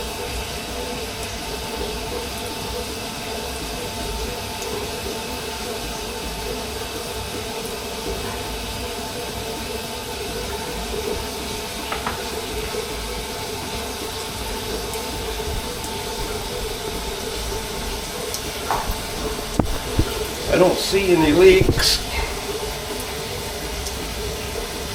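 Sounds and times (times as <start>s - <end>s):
faucet water running into sink: 0.0s - 24.9s.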